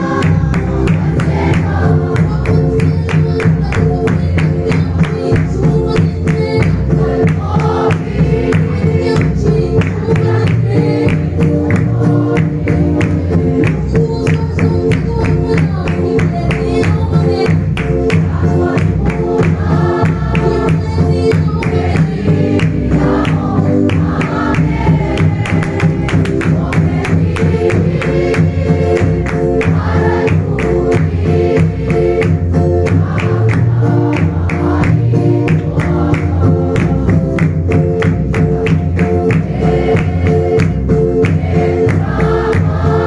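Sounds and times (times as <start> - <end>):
congregation singing a hymn: 0.0 - 14.0, 15.0 - 43.0
barrel drum beat: 0.0 - 43.0.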